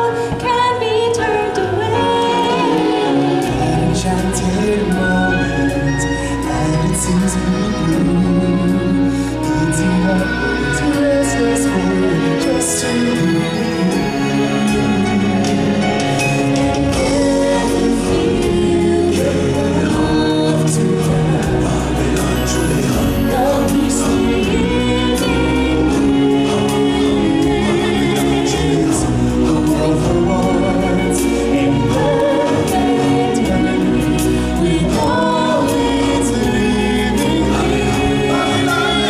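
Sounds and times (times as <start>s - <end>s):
choir singing: 0.0s - 39.0s
instrumental backing music: 0.0s - 39.0s.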